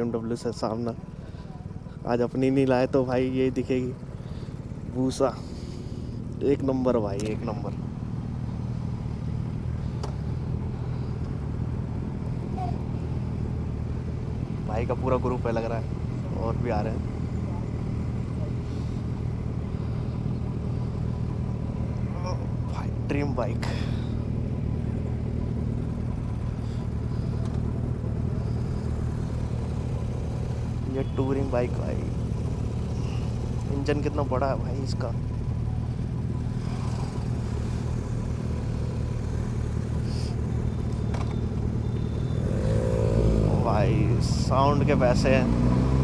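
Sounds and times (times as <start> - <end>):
motorcycle engine running at low revs: 0.0 - 46.0.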